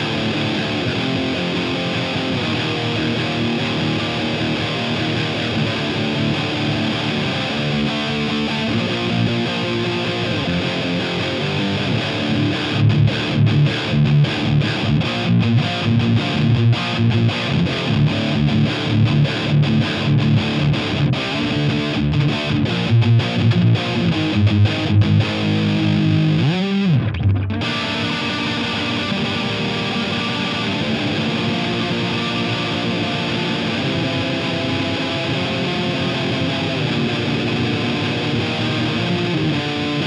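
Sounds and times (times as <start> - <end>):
distorted electric guitar: 0.0 - 40.0.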